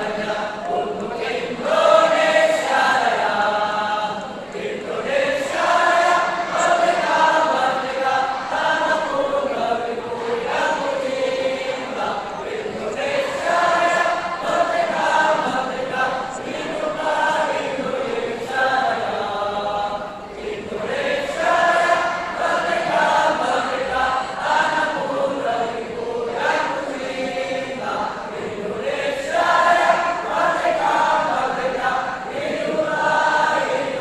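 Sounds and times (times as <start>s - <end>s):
group singing in unison: 0.0s - 34.0s.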